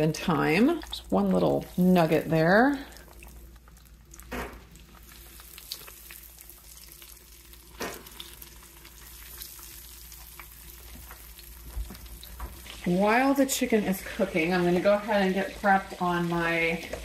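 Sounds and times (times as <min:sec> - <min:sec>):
chicken sizzling in oil: 0:00.4 - 0:17.0.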